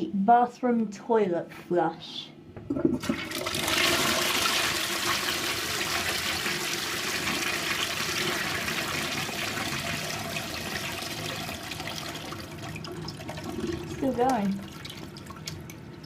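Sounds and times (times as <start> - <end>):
toilet flushing: 2.6 - 16.0.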